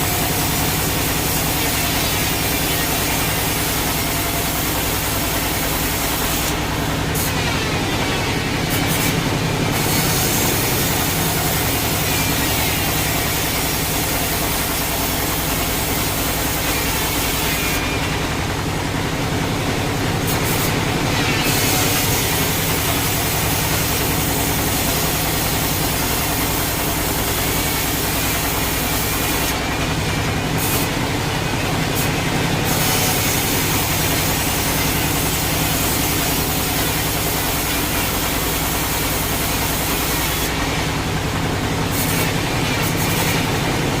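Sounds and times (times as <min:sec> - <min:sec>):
saw cutting through log: 0:00.0 - 0:44.0
sawmill machinery running: 0:00.0 - 0:44.0.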